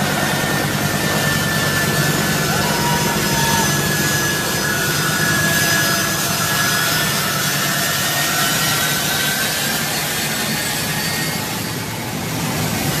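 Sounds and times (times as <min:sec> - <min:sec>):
jet engines droning inside aircraft: 0:00.0 - 0:13.0.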